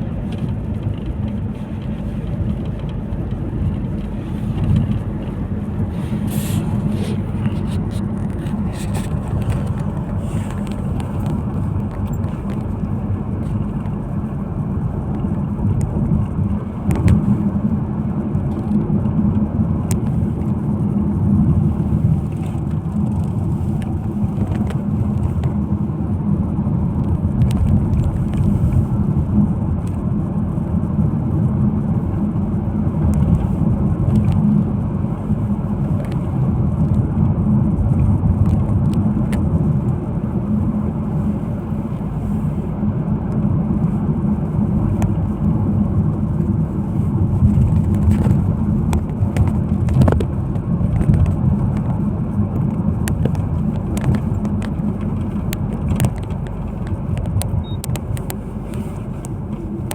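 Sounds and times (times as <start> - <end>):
car rumbling: 0.0 - 59.9.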